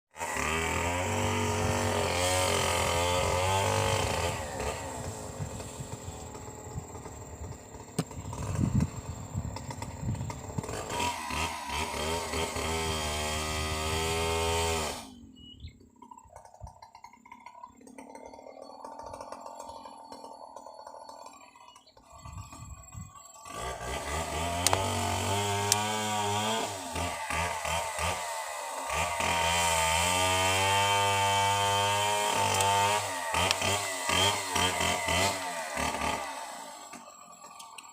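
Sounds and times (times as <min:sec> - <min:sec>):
chainsaw engine revving: 0:00.1 - 0:37.9.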